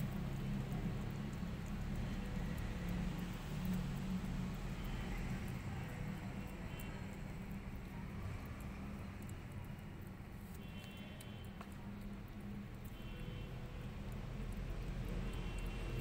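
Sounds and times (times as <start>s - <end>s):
faint scattered ticks: 0.0s - 16.0s
low background hum and rumble: 0.0s - 16.0s.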